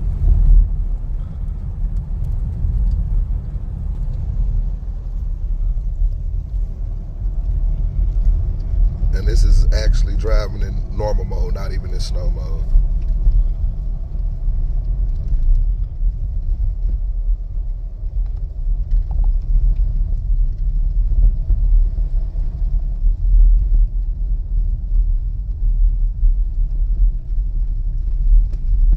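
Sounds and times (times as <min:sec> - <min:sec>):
tyre and road noise in car cabin: 0:00.0 - 0:28.9.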